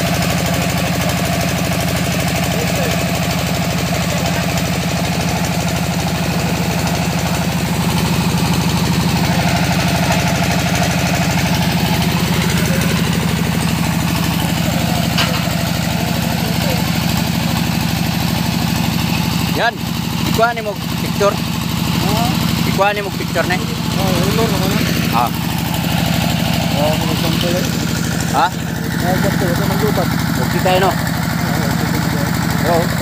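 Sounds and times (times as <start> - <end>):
drilling rig engine drone: 0.0 - 33.0.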